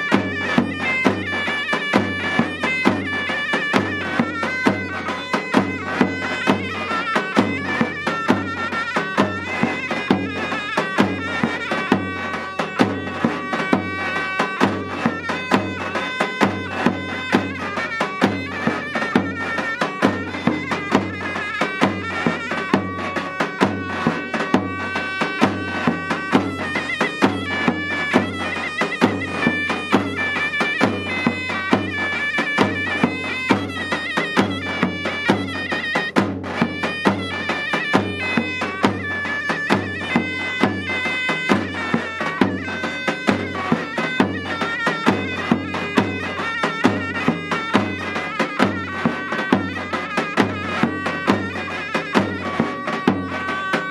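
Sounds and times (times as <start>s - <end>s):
reedy wind instrument melody: 0.0s - 53.9s.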